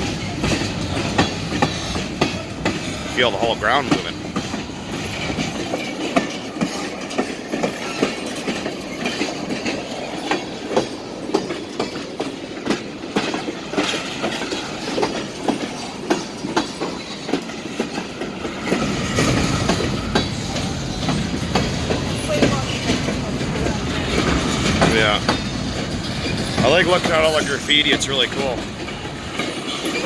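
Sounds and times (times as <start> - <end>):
freight train rumble: 0.0 - 30.0
wheels clanking over rail joints: 0.0 - 30.0.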